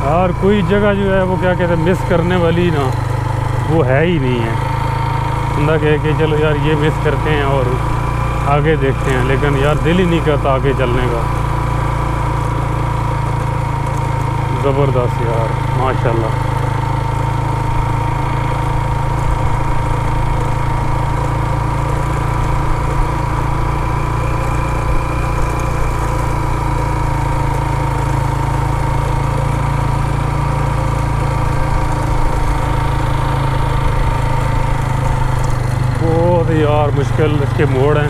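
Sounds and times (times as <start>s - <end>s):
motorcycle engine running: 0.0s - 38.0s
steady whine: 0.0s - 38.0s.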